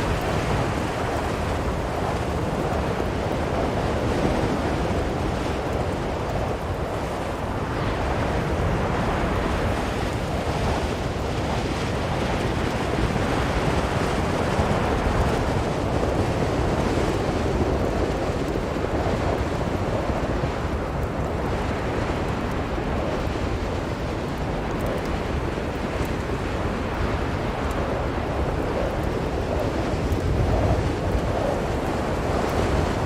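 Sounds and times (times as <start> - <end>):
blizzard wind blowing hard: 0.0 - 33.0.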